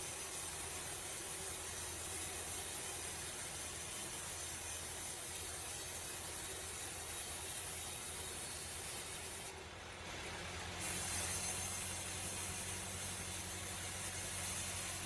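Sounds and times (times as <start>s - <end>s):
constant hiss: 0.0s - 15.0s
steady mechanical hum: 0.0s - 15.0s.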